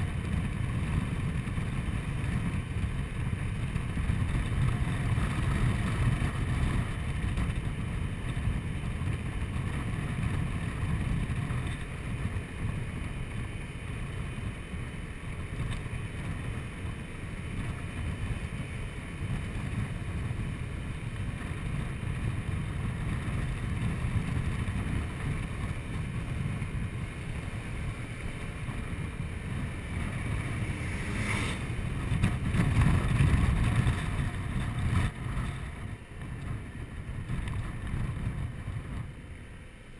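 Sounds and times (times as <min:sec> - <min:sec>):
scooter engine running: 0:00.0 - 0:39.9
wind rushing over microphone: 0:00.0 - 0:39.9.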